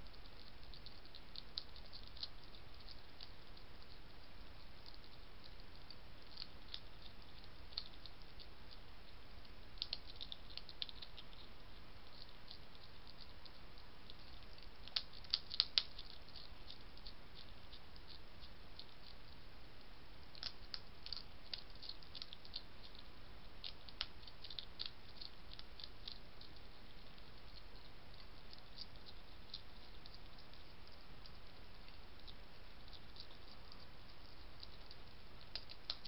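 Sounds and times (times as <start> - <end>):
background hiss: 0.0 - 36.0
hedgehog crunching dry food: 0.0 - 36.0.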